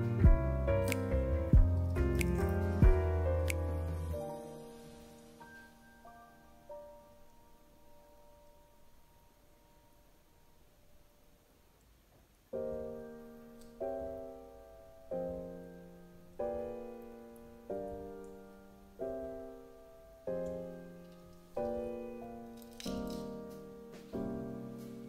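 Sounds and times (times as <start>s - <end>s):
slow piano chords: 0.0s - 11.7s, 12.3s - 25.0s.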